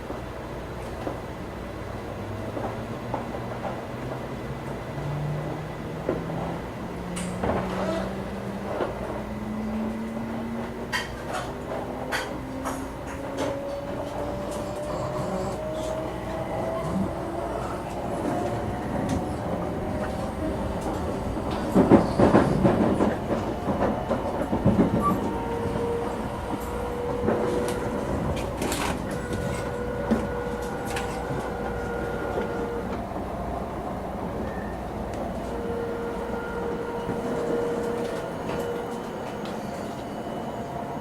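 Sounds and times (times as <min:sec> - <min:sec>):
train wheels rumbling on track: 0:00.0 - 0:41.0.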